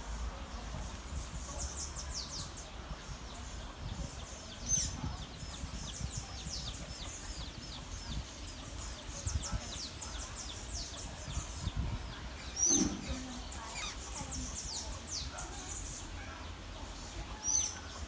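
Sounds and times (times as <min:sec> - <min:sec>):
low breeze rumble: 0:00.0 - 0:18.0
small birds chirping: 0:00.0 - 0:18.0.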